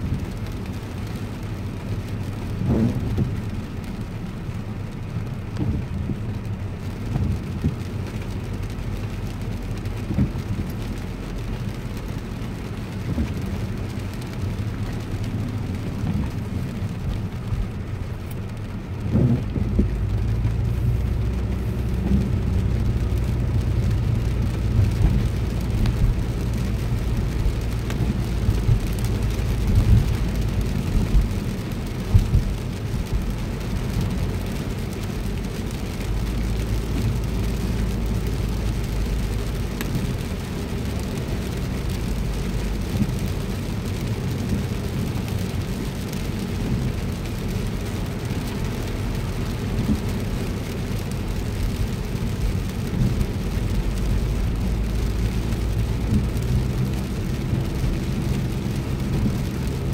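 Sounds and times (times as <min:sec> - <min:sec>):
car rumbling on wet road: 0:00.0 - 0:59.9.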